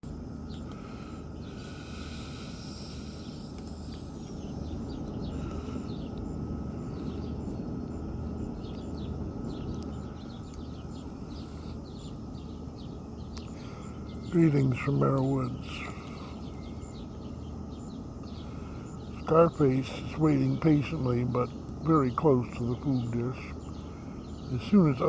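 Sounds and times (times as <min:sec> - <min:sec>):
small birds chirping: 0:00.0 - 0:25.0
steady low background hum: 0:00.0 - 0:25.0.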